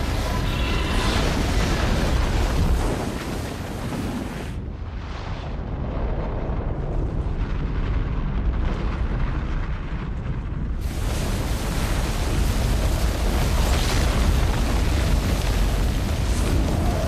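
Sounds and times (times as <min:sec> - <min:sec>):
avalanche rumble: 0:00.0 - 0:17.0.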